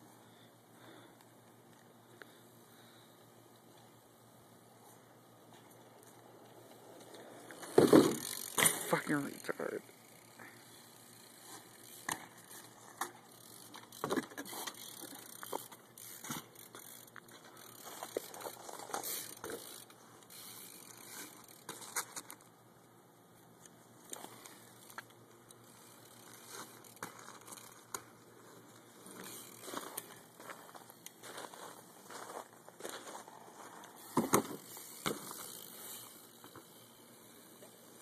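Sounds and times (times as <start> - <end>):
bike clicks and rattles: 5.2 - 38.0.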